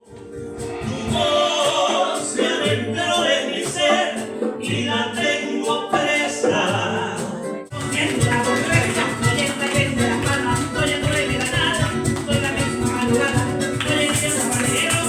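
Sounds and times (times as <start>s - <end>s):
singing with instrumental accompaniment: 0.1s - 15.0s.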